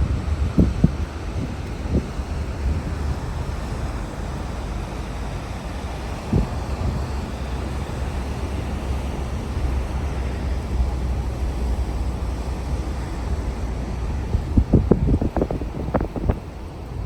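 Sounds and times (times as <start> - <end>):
car engine and tyre rumble: 0.0 - 17.0
wind noise: 0.0 - 17.0.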